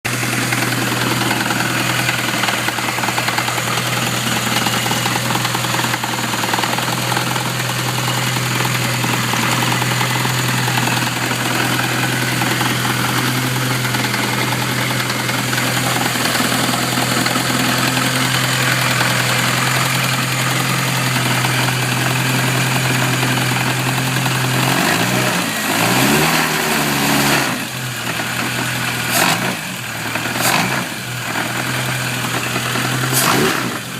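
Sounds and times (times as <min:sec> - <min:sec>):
car engine idling with knocking: 0:00.0 - 0:33.9
engine revving: 0:00.1 - 0:33.9.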